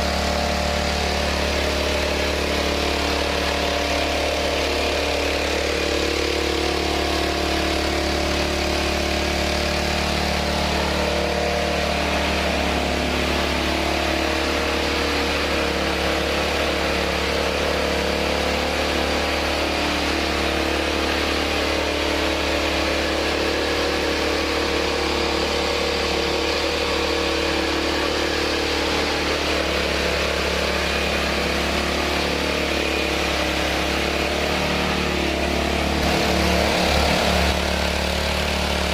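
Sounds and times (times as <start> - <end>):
rice mill running: 0.0 - 38.9.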